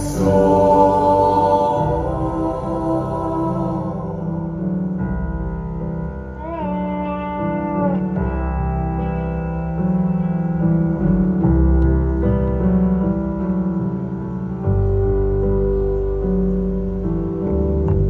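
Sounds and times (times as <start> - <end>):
deep bass notes: 0.0 - 18.0
piano chords: 0.0 - 18.0.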